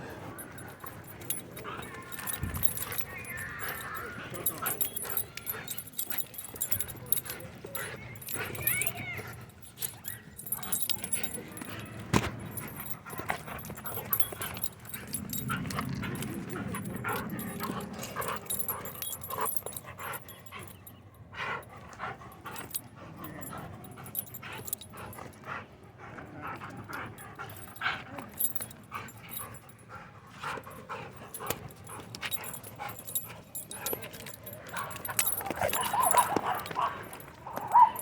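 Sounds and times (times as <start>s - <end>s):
dogs barking and yipping: 0.0s - 25.2s, 26.4s - 38.0s.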